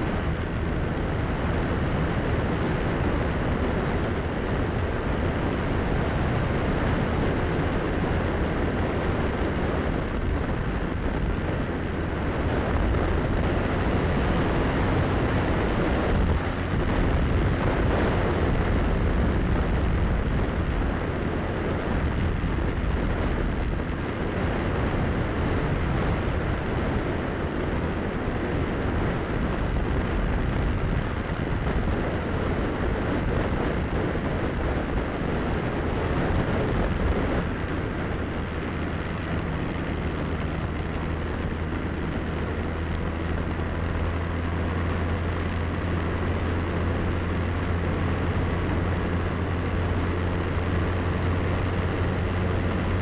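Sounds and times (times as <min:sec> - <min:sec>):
motorcycle engine rumble: 0:00.0 - 0:53.0
road noise: 0:00.0 - 0:53.0
wind rush on microphone: 0:00.0 - 0:53.0.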